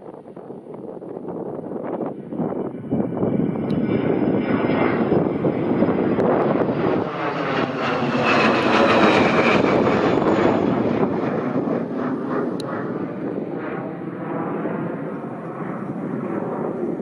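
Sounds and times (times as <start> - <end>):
airliner engines roaring: 0.0 - 17.0.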